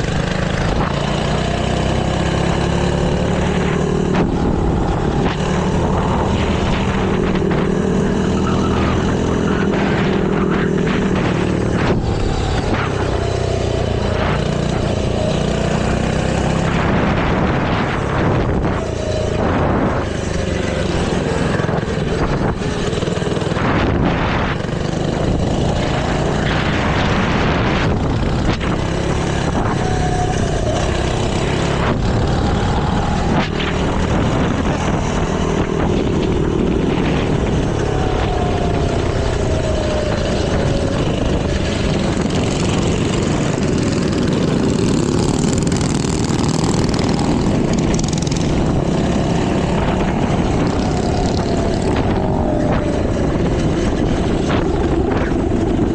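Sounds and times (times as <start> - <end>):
minibike engines running: 0.0 - 55.9.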